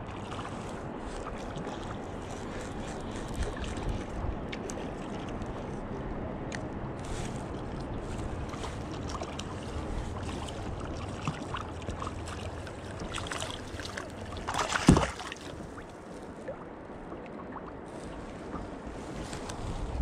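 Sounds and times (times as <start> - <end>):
water lapping against boat: 0.0 - 20.0.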